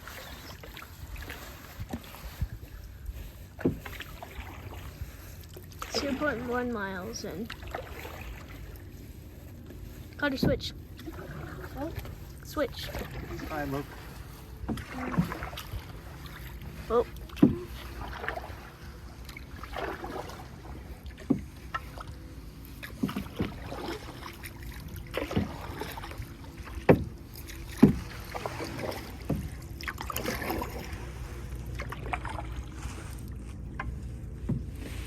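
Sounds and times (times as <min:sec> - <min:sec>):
paddles splashing in water: 0:00.0 - 0:35.0
paddle knocking against boat: 0:00.5 - 0:08.8, 0:09.6 - 0:35.0.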